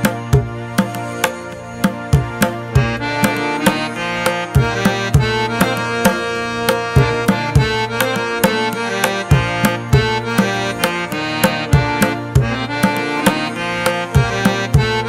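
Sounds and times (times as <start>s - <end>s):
held melodic notes: 0.0s - 15.0s.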